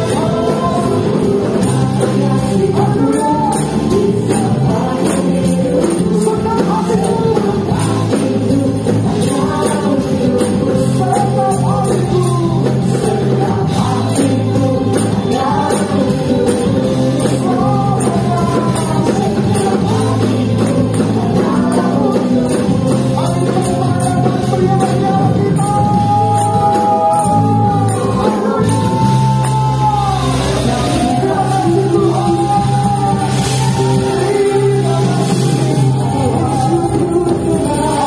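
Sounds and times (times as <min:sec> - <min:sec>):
worship song with band: 0:00.0 - 0:38.0.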